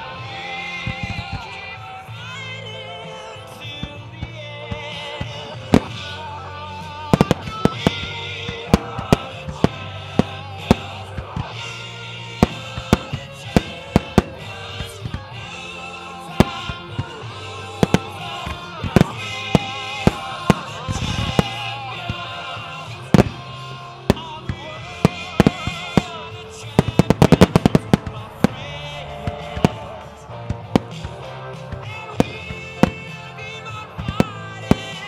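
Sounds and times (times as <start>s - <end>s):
music playing: 0.0s - 35.0s
fireworks bangs: 0.9s - 1.6s, 3.6s - 35.0s.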